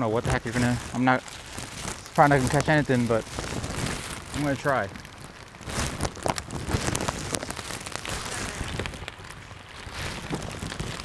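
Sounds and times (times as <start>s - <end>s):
rain falling: 0.0s - 11.0s
sharp raindrop hits: 0.0s - 11.0s.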